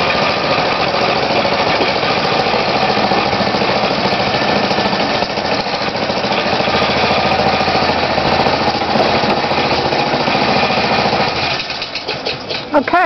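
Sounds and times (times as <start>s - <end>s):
rail car engine chattering: 0.0s - 13.0s.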